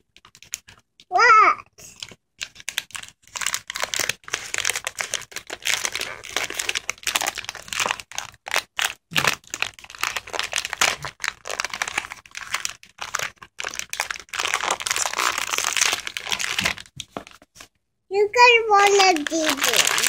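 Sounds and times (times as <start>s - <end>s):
plastic wrapper crinkling: 0.0s - 1.0s, 1.9s - 17.7s, 18.4s - 20.0s.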